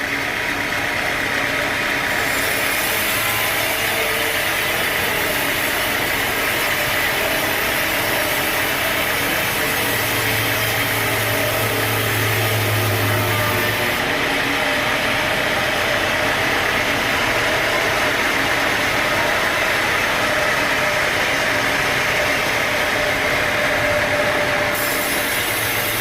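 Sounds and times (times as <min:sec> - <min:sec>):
sawmill machinery running: 0:00.0 - 0:26.0.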